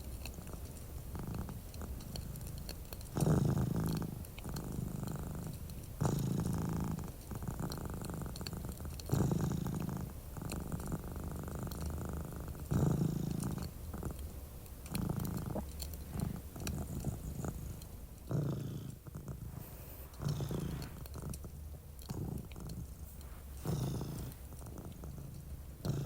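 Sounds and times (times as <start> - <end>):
cat purring: 0.0 - 26.0
fireplace crackling: 0.0 - 26.0.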